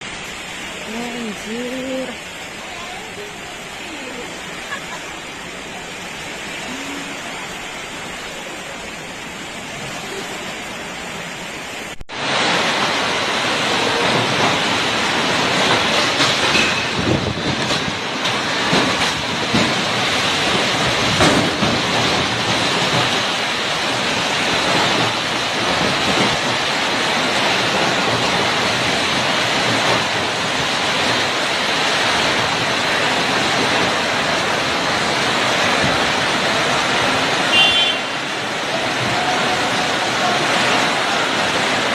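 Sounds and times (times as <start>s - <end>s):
heavy rain: 0.0s - 41.9s
strong wind: 0.0s - 41.9s.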